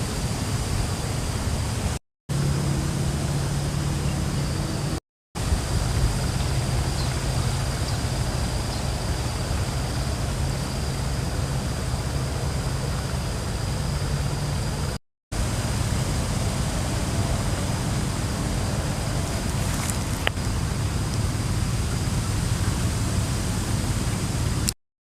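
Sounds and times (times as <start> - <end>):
wind blowing across microphone: 3.0 - 13.4, 14.3 - 24.7.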